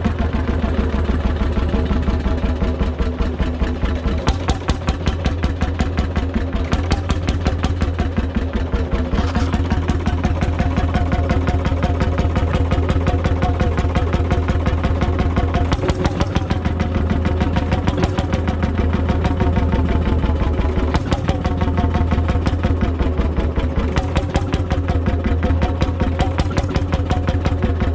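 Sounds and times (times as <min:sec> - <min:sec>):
two-stroke engine running: 0:00.0 - 0:27.9.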